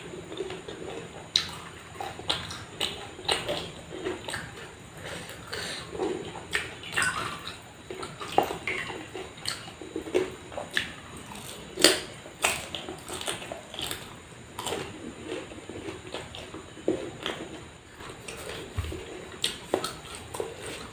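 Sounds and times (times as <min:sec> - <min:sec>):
crunchy bites: 0:00.3 - 0:20.9
wet chewing and mouth smacks: 0:00.3 - 0:20.9.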